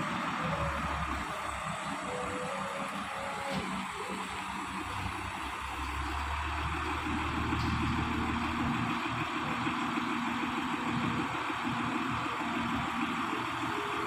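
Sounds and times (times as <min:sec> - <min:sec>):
heavy vehicle engine running: 0:00.0 - 0:14.0.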